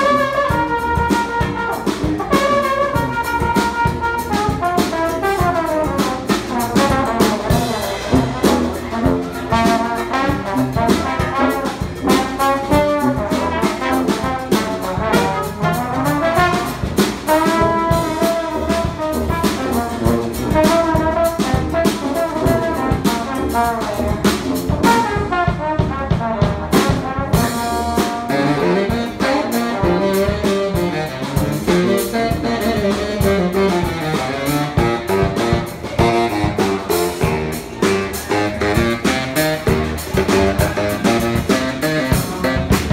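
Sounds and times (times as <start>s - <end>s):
brass band playing: 0.0s - 42.9s
drum kit beat: 0.0s - 42.9s.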